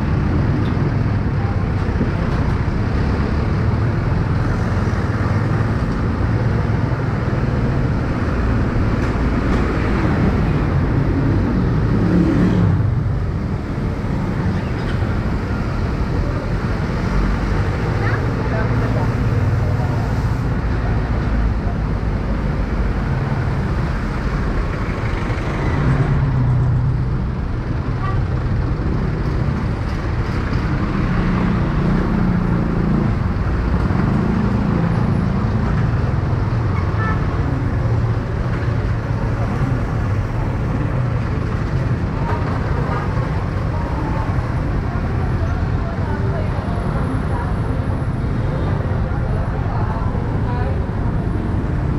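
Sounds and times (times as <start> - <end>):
road and traffic noise: 0.0 - 51.9.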